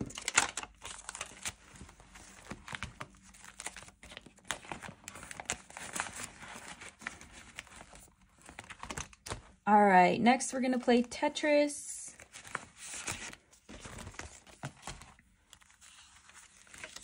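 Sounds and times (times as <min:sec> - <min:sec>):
paper banknotes rustling: 0:00.0 - 0:09.5, 0:12.2 - 0:17.0.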